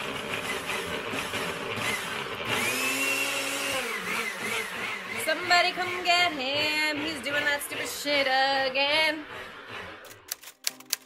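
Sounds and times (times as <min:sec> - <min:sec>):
blender running: 0:00.0 - 0:10.4.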